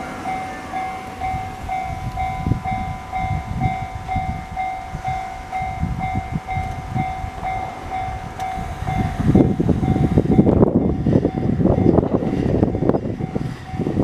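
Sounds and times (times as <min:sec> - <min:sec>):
level-crossing warning bell: 0:00.0 - 0:14.0
train rumble and wheel clatter: 0:00.0 - 0:14.0.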